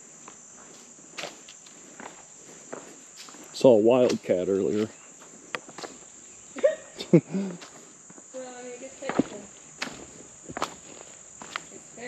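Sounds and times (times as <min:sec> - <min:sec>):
footsteps on trail: 0:00.0 - 0:12.0
insects chorus: 0:00.0 - 0:12.0.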